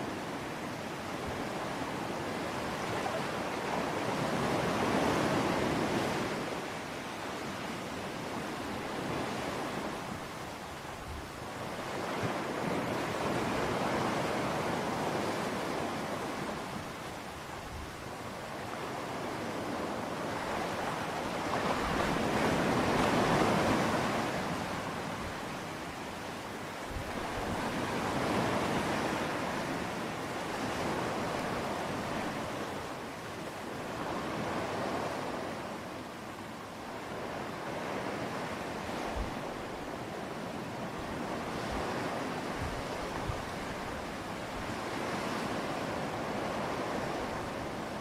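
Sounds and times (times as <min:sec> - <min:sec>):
sea surf washing: 0:00.0 - 0:48.0.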